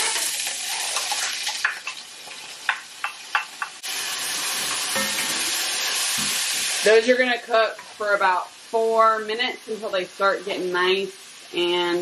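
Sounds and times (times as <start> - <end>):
leeks sizzling in hot pan: 0.0 - 12.0.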